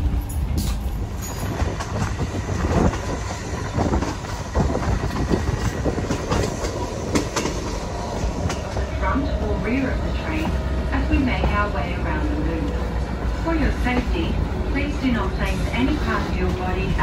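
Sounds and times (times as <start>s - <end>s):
train rumbling: 0.0s - 17.0s
wheels clattering on track: 0.0s - 17.0s.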